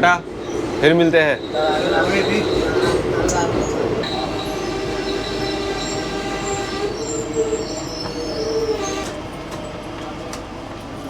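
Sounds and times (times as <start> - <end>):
train wheels and brakes squealing: 0.0 - 10.4
train coach rumble: 0.0 - 11.0.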